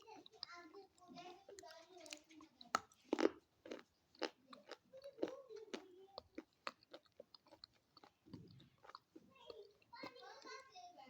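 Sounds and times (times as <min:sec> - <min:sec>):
chewing crunchy stick: 0:00.0 - 0:10.5.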